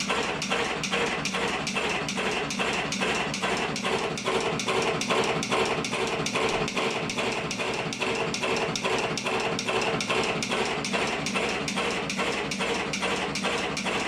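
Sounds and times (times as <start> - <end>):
machine clacking: 0.0 - 14.0
mechanical hum: 0.0 - 14.0.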